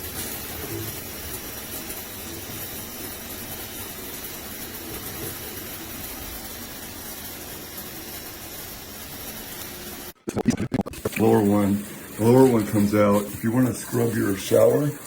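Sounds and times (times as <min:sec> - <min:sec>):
shower spraying water: 0:00.0 - 0:10.2, 0:10.8 - 0:15.0.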